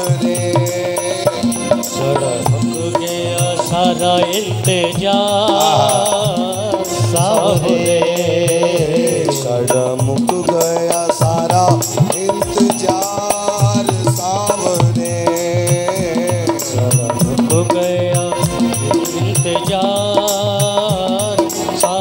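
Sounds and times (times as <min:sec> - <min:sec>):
devotional song with wavering melody: 0:00.0 - 0:22.0
steady hand drum rhythm: 0:00.0 - 0:22.0.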